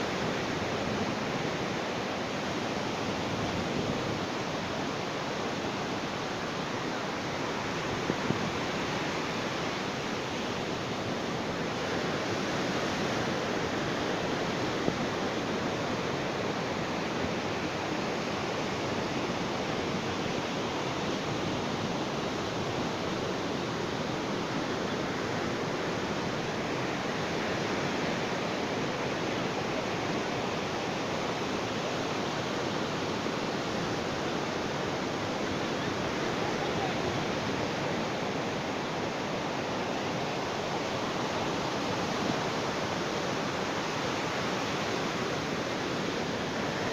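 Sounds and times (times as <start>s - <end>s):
ocean surf washing: 0.0s - 46.9s.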